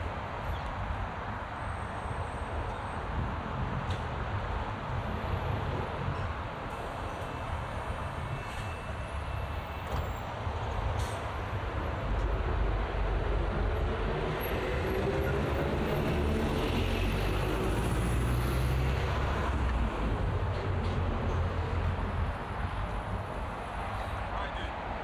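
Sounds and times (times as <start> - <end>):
passing traffic rumble: 0.0 - 25.0.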